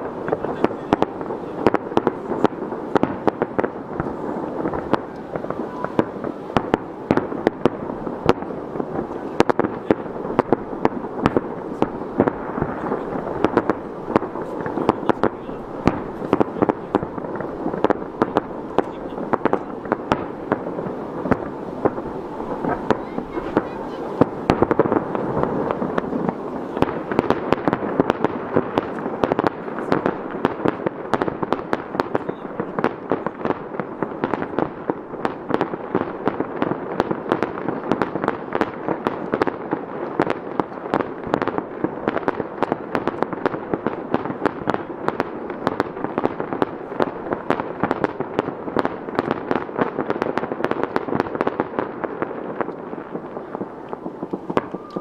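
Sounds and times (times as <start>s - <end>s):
fireworks bursting: 0.0s - 55.0s
fireworks rumble: 0.0s - 55.0s.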